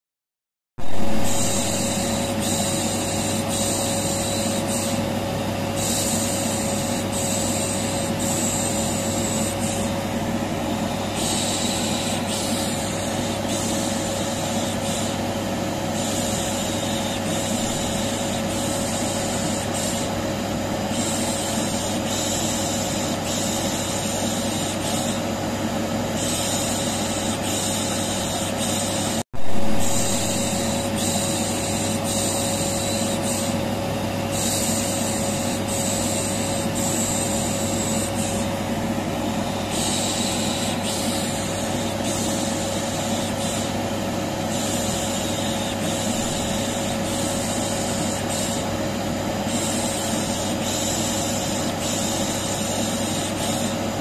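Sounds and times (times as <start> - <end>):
vacuum cleaner running: 0.8 - 54.0.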